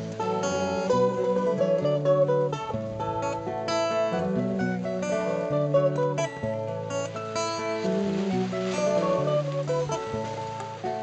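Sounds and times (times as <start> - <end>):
acoustic guitar strumming: 0.0 - 11.0
picked guitar melody: 0.0 - 11.0.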